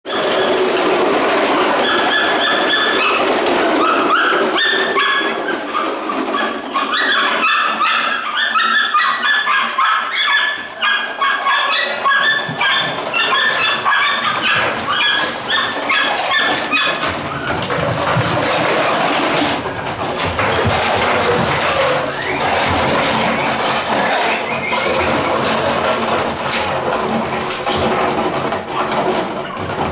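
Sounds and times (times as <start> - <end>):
puppies yipping and whining: 0.1 - 29.9.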